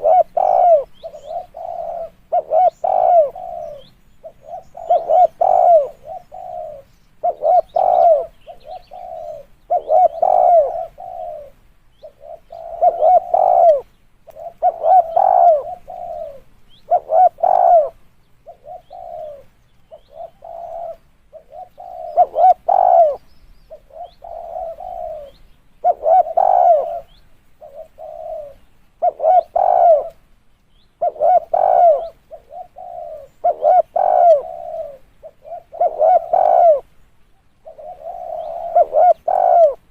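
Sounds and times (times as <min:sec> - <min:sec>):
dove cooing: 0:00.0 - 0:30.2, 0:31.0 - 0:39.9.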